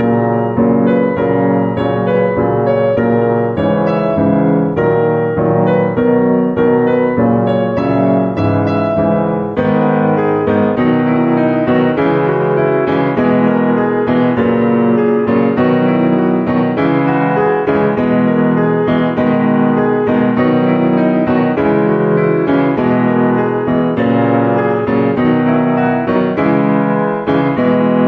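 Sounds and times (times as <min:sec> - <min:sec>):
piano background music: 0:00.0 - 0:28.0.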